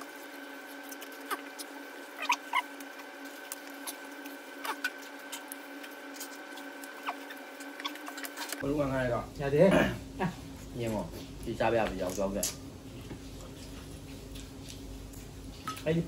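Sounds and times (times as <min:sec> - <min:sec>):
chewing and smacking sounds: 0:00.0 - 0:08.6, 0:11.2 - 0:15.9
steady hum: 0:00.0 - 0:16.0.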